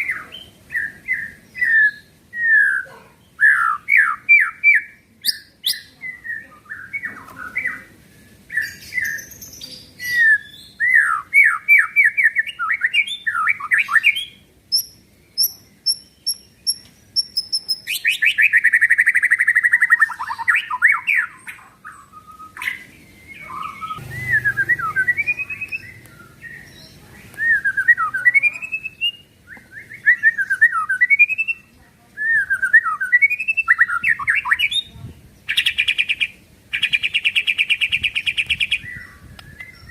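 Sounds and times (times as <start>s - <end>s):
bird singing whistled phrases: 0.0s - 7.9s, 8.5s - 34.9s, 35.5s - 39.9s.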